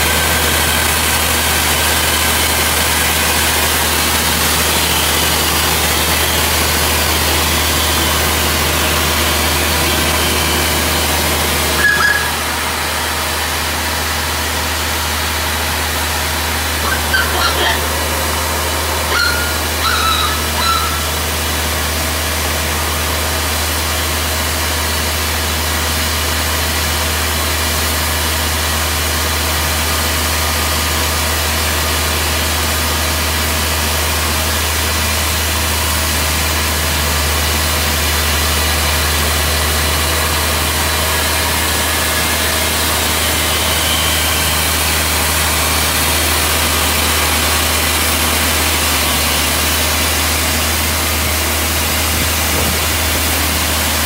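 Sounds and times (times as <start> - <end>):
deep engine drone: 0.0 - 54.0.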